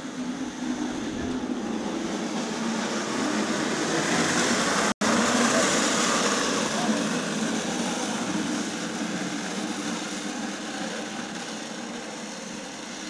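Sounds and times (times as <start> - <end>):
hard wheels rolling on asphalt: 0.0 - 13.0.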